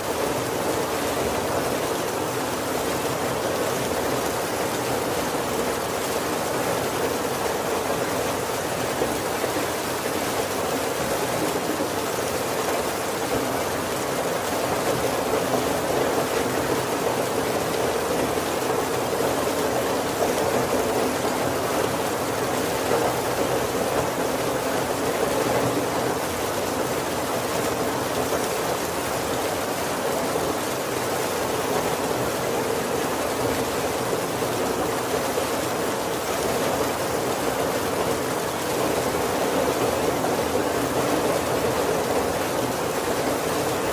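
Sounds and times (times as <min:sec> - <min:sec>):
heavy rain on a roof: 0:00.0 - 0:43.9.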